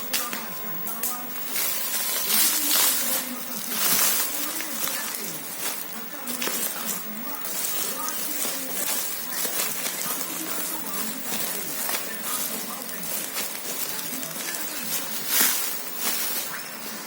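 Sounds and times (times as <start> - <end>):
foam mat and packaging rustling: 0.0 - 17.0.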